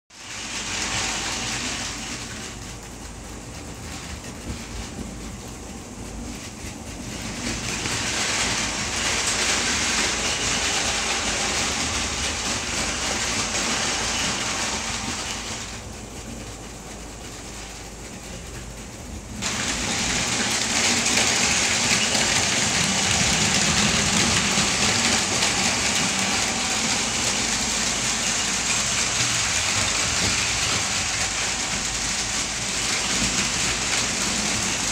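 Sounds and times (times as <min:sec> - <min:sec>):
toy trains whirring on track: 0:00.2 - 0:05.0, 0:06.2 - 0:16.5, 0:19.3 - 0:34.9.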